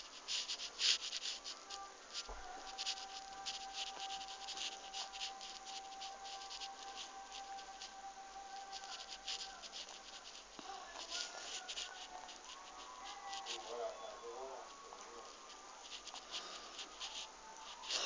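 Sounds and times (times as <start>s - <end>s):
pencil scratching on paper: 0.0s - 13.8s, 15.8s - 18.0s.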